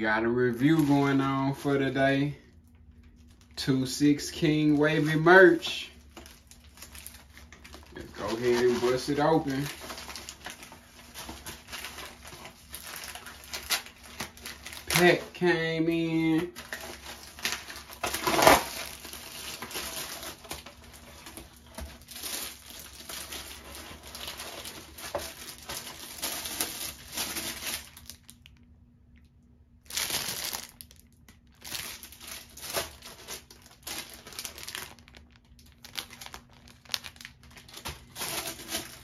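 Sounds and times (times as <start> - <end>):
plastic packaging crinkling: 0.2 - 28.7, 29.8 - 39.0.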